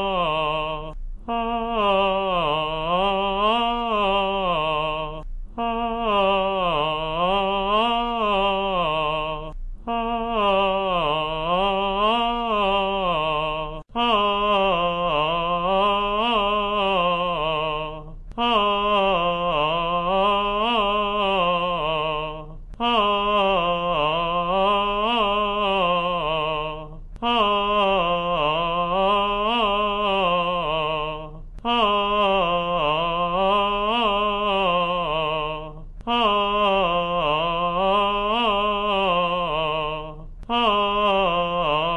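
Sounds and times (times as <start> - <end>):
man singing vocal exercise: 0.0 - 41.9.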